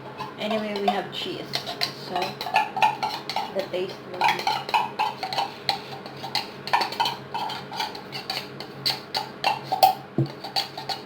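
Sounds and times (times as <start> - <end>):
spoon knocking and scraping a bowl: 0.0 - 11.0.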